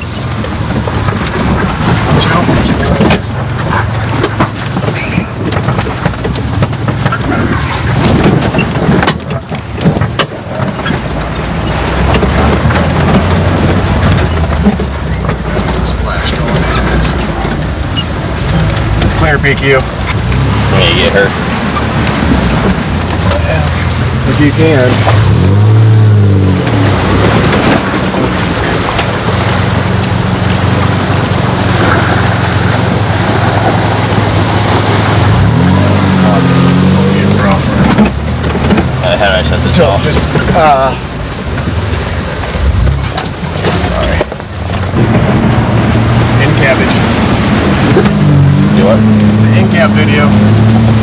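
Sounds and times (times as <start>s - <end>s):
cab knocking and rattling: 0.0s - 51.0s
engine rumbling from inside cab: 0.0s - 51.0s.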